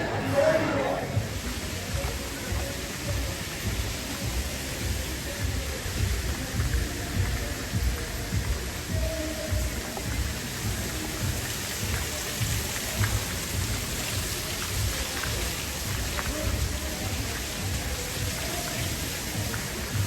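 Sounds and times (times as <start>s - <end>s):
rain-like hiss: 0.0s - 20.0s.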